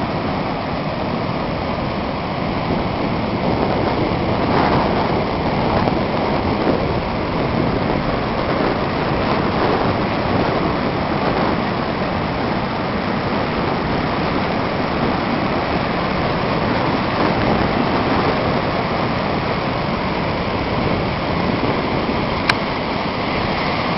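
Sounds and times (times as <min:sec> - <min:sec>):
surf breaking on a beach: 0:00.0 - 0:23.9
wind buffeting microphone: 0:00.0 - 0:23.9.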